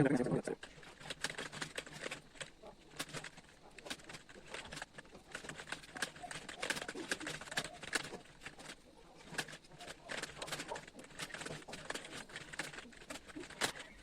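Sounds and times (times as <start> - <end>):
fast keyboard typing: 0.1 - 14.0.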